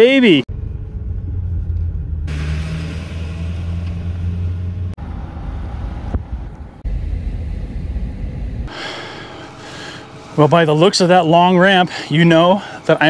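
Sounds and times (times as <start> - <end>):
truck engine and road drone: 0.2 - 13.0.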